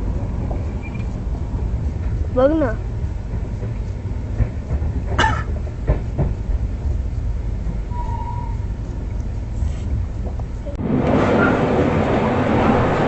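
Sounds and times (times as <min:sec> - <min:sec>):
sharp clacks of train: 0:00.0 - 0:13.0
train rumbling: 0:00.0 - 0:13.0.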